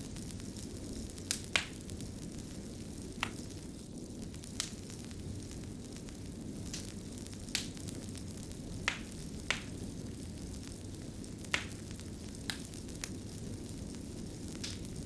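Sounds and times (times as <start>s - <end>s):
fire crackling: 0.0s - 15.0s
sharp pops of fire: 0.0s - 15.0s.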